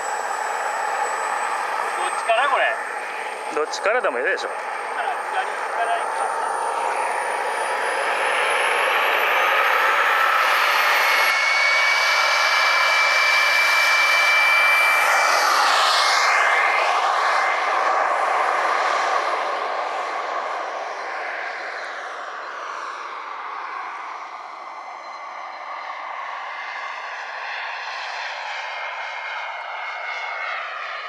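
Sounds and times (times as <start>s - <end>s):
model jet turbine whine: 0.0s - 31.0s.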